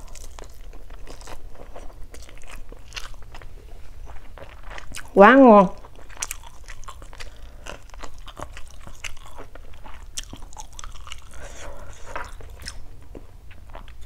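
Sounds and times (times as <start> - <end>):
person chewing food: 0.0 - 5.2, 5.8 - 14.0.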